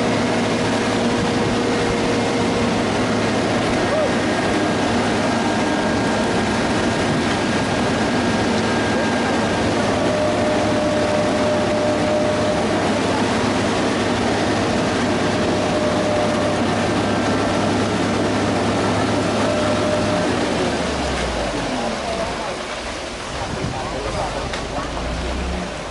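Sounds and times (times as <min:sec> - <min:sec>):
heavy diesel machinery running: 0:00.0 - 0:25.9.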